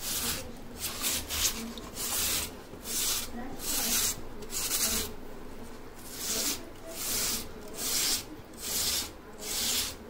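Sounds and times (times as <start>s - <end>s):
potato grated on hand grater: 0.0s - 5.1s, 6.0s - 10.0s.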